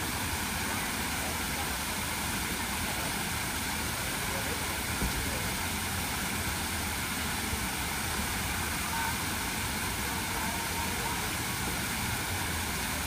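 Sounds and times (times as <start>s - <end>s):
fountain water pouring: 0.0s - 13.0s.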